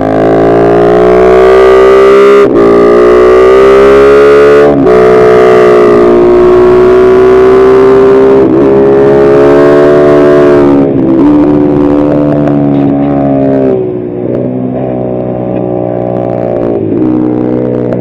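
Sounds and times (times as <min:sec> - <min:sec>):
motorbike engine high whine: 0:00.0 - 0:18.0.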